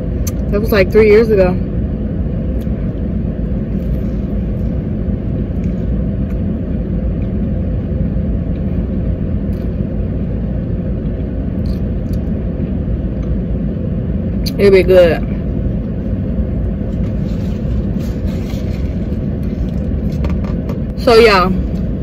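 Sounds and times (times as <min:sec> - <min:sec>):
car engine idling rumble: 0:00.0 - 0:22.0.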